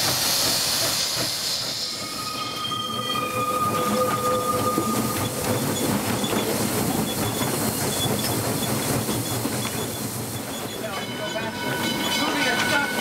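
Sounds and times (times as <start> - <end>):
steam hissing: 0.0 - 13.0
wheels clanking on rails: 1.2 - 13.0.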